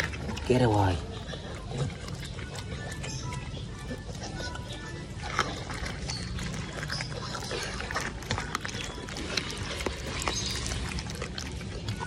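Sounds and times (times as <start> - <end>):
dog chewing: 0.0 - 12.0.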